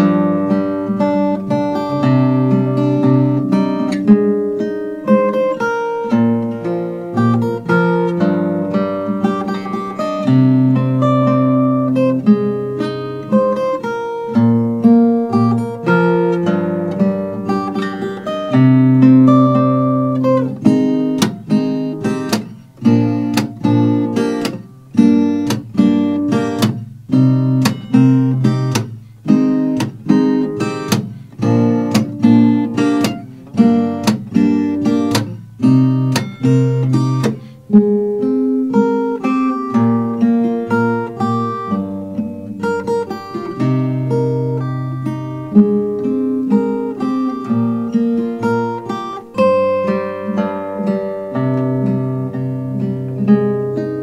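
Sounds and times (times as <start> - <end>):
guitar sharp accented strokes: 0.0 - 52.4
acoustic guitar fingerstyle melody: 0.0 - 54.0.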